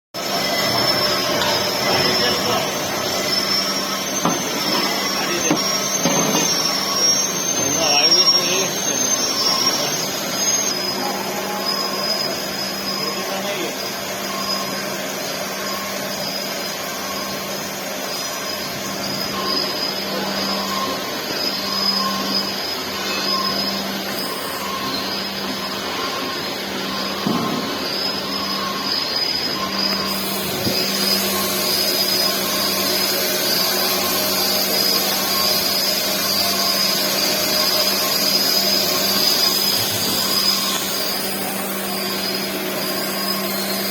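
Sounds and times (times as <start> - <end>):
machine whirring and whining: 0.2 - 43.9.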